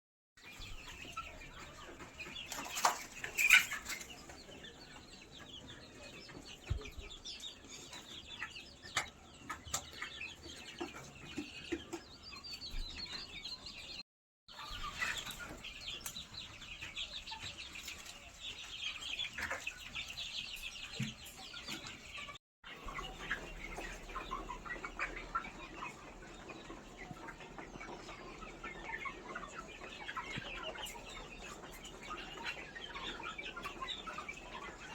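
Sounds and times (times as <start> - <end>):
chickens clucking: 0.4 - 34.9.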